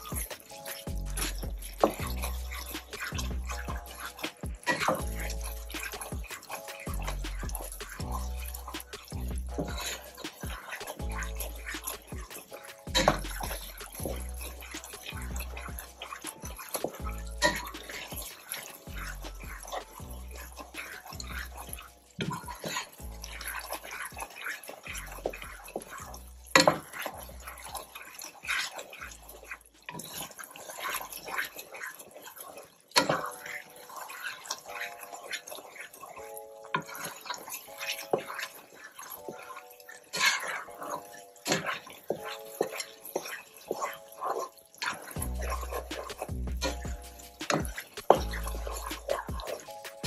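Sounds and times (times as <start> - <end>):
background music: 0.0 - 50.0
spoon stirring rice in a pan: 0.0 - 50.0.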